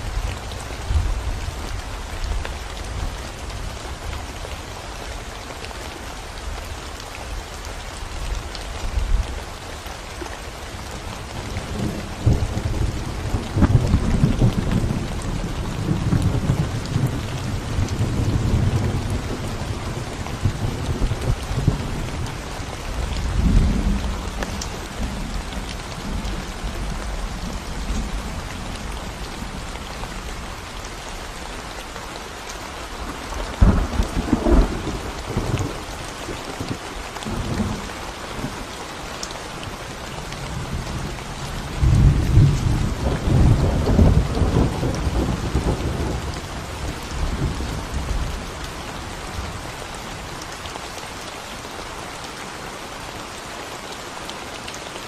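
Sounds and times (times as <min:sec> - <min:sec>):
rain on concrete road: 0:00.0 - 0:55.0.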